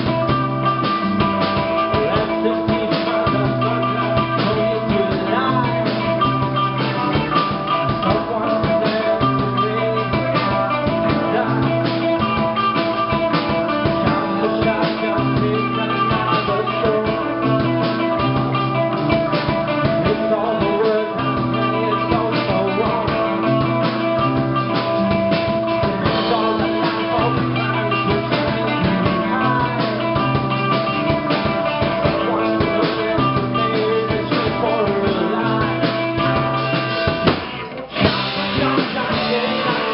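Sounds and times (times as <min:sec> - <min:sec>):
bass guitar: 0:00.0 - 0:39.9
drum kit beat: 0:00.0 - 0:39.9
electric guitars: 0:00.0 - 0:39.9.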